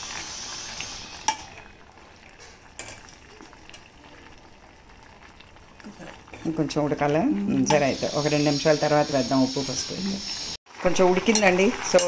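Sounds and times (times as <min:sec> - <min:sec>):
liquid bubbling: 0:00.0 - 0:10.2.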